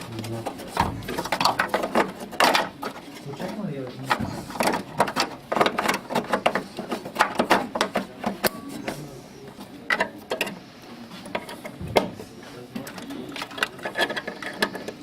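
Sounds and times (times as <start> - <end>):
hands clicking and tapping parts: 0.0 - 10.6, 11.2 - 15.0.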